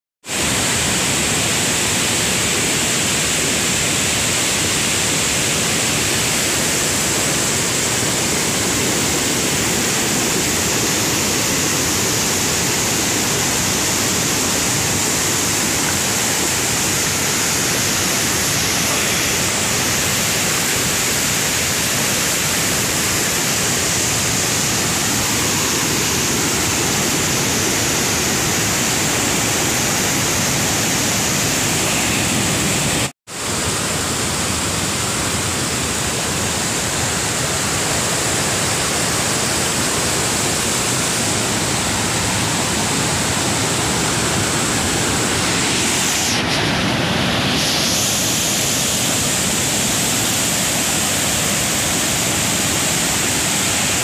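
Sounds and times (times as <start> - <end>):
river rushing over rapids: 0.3 - 54.0.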